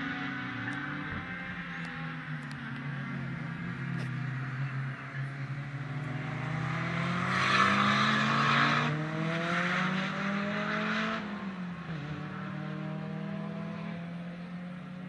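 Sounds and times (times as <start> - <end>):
race car accelerating hard: 0.0 - 15.0.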